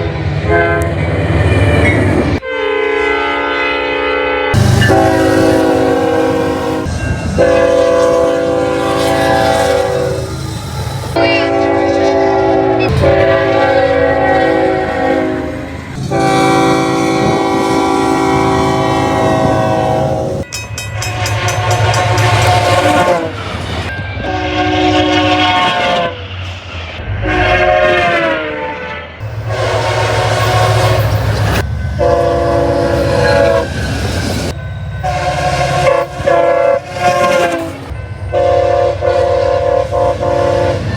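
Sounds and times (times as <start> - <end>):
train air horn blasts: 0.0 - 1.0, 2.4 - 23.6, 24.2 - 26.3, 27.0 - 40.9
low train rumble: 0.0 - 40.9.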